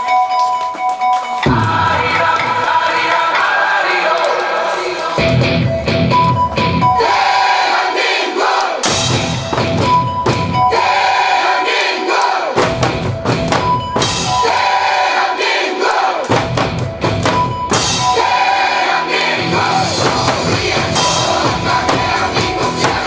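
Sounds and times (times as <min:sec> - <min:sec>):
drum ensemble playing: 0:01.2 - 0:23.0.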